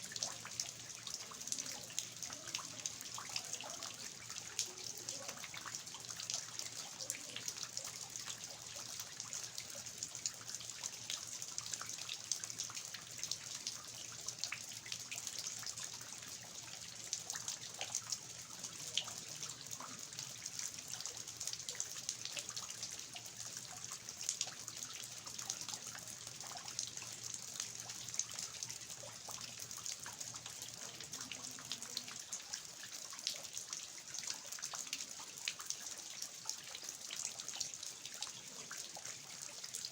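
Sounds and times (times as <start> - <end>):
water dripping from eaves: 0.0 - 39.9.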